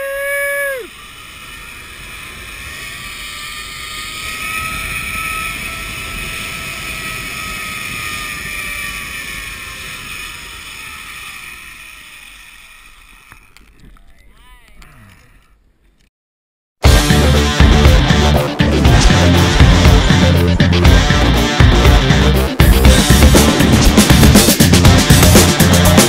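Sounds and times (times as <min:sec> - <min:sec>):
zipline pulleys whirring on cable: 0:00.0 - 0:15.6, 0:18.1 - 0:26.0.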